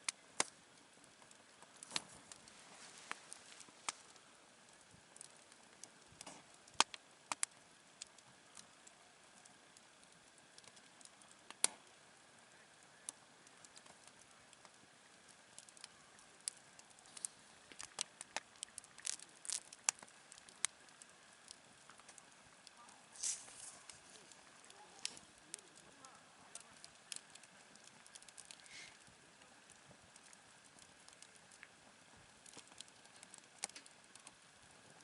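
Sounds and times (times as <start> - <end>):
campfire crackling and popping: 0.0 - 35.0
faint steady hiss: 0.0 - 35.0.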